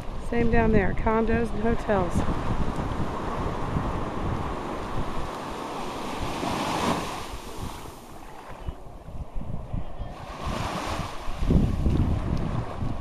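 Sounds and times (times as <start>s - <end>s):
ocean waves breaking on beach: 0.0s - 13.0s
wind rumbling on microphone: 0.0s - 13.0s.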